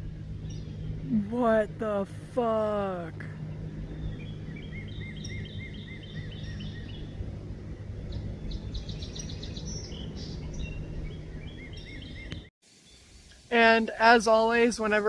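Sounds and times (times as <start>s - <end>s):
songbirds singing: 0.0s - 2.0s, 2.8s - 13.3s
steady low hum: 0.0s - 12.5s.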